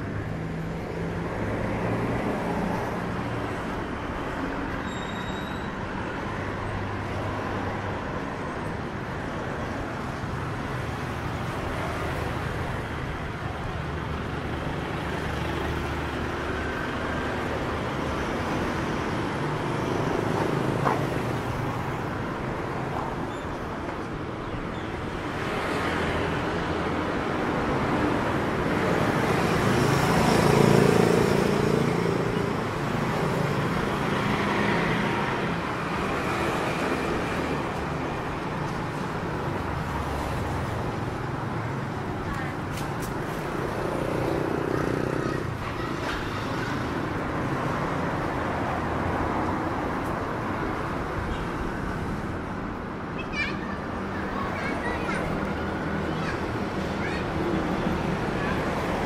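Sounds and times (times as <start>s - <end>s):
road noise from passing vehicles: 0.0s - 59.0s.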